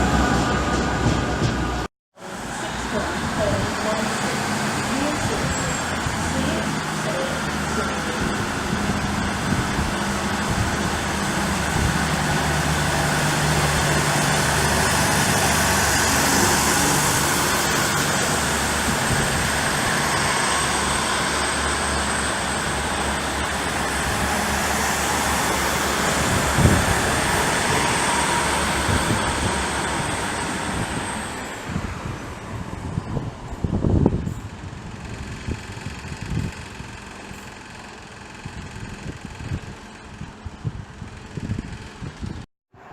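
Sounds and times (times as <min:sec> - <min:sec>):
train engine drone: 0:00.0 - 0:42.9.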